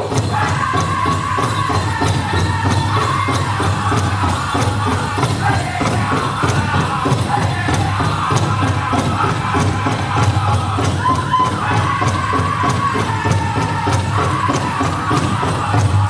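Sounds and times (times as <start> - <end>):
big drum beating: 0.0 - 16.0
group singing: 0.0 - 16.0.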